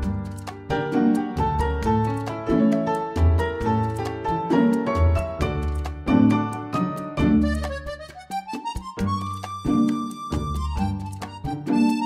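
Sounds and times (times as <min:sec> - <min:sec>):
bouncy instrumental music: 0:00.0 - 0:12.0.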